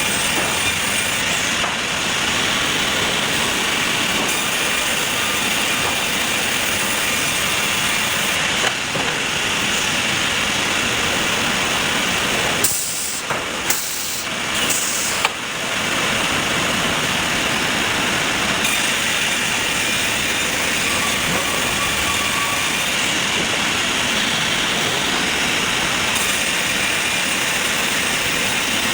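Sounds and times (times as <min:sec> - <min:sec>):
sawmill machinery hissing: 0:00.0 - 0:28.9.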